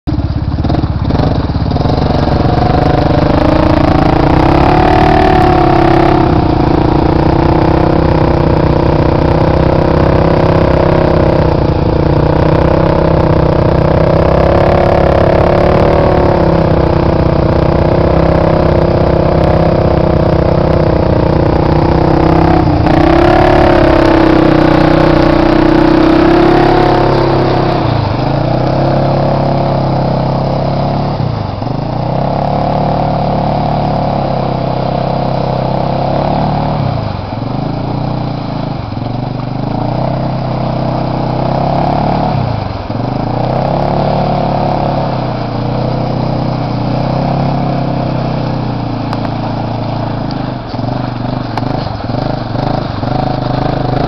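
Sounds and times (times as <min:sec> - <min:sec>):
atv engine revving: 0:00.1 - 0:54.0.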